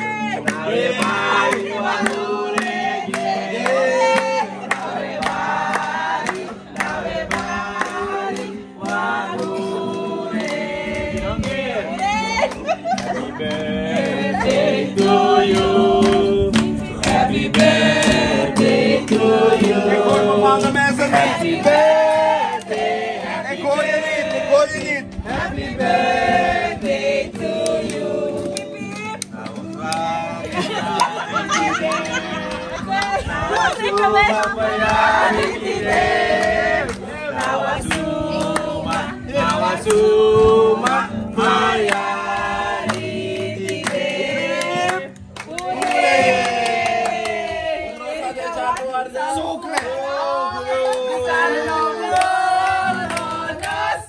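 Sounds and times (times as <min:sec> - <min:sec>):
several voices singing: 0:00.0 - 0:54.0.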